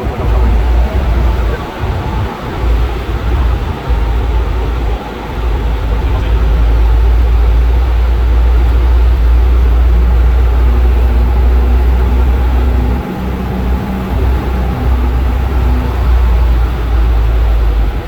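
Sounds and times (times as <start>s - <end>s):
airplane cabin engine noise: 0.0s - 18.0s.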